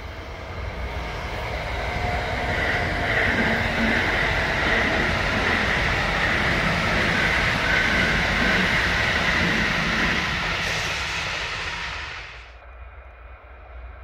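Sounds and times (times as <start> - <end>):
electric train running past: 0.0 - 14.0.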